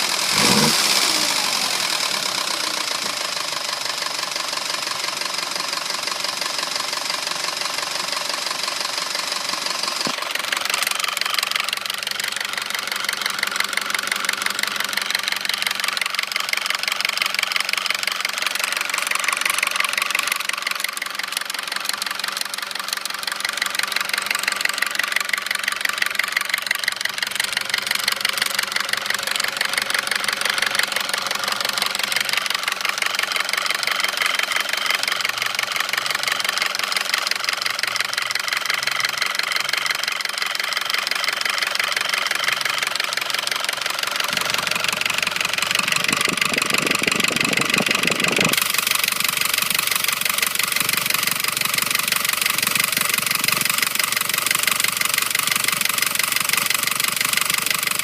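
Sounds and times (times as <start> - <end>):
car engine knocking: 0.0 - 58.0.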